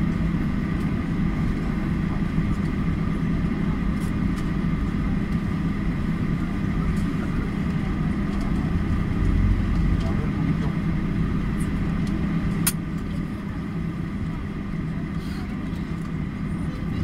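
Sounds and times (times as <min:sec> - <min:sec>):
jet engines humming in cabin: 0:00.0 - 0:17.0.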